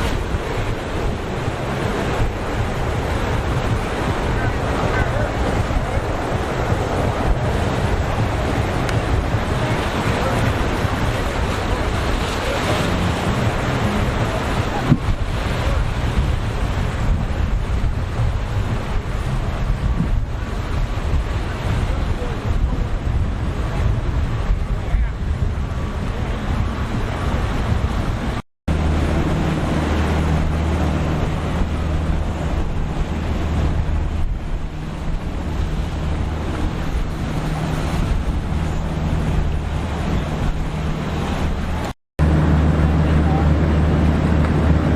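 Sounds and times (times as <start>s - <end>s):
boat engine droning: 0.0s - 44.9s
rough surf rushing: 0.0s - 44.9s
waves breaking: 0.0s - 44.9s
wind buffeting microphone: 0.0s - 44.9s.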